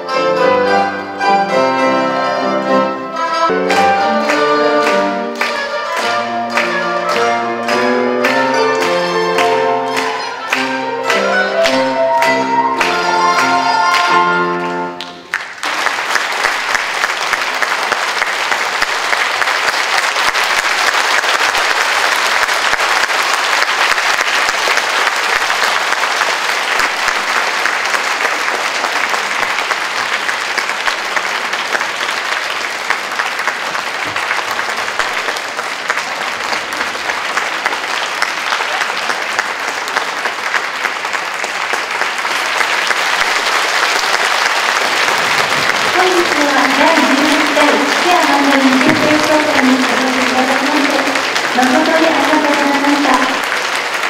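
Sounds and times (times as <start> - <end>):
audience applauding: 1.6 - 54.0.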